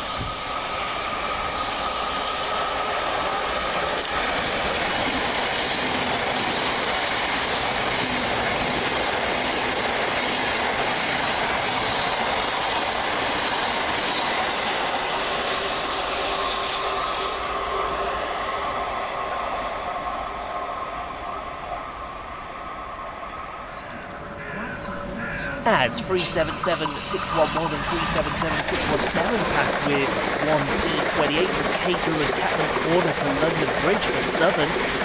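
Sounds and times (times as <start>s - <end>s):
faint train whine: 0.0s - 35.0s
train wheels rushing on rails: 0.0s - 35.0s.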